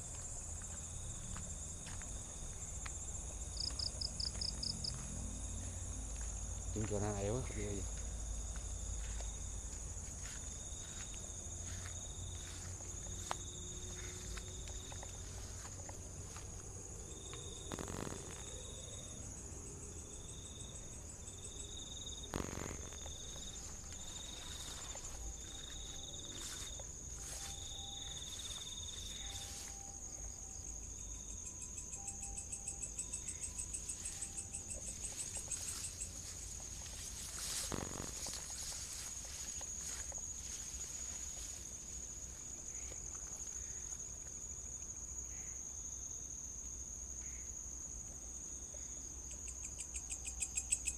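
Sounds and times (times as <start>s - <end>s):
crickets chirping: 0.0s - 50.9s
high-pitched insect drone: 0.0s - 50.9s
fast pulsing insect trill: 3.3s - 50.9s.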